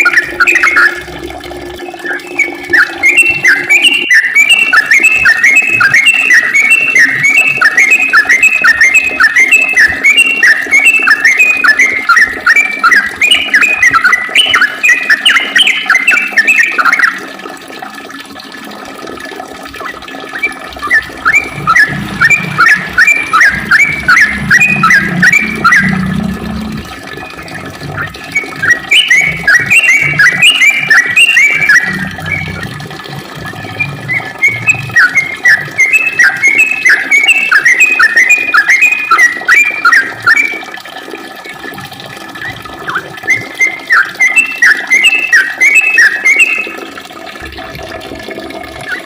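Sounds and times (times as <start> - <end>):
bird singing whistled notes: 0.0 - 1.1, 1.8 - 17.2, 20.3 - 32.8, 33.5 - 40.6, 42.4 - 46.8.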